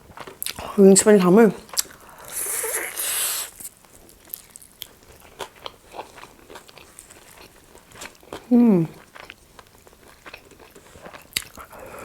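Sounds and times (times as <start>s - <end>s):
wet chewing: 1.7s - 11.8s.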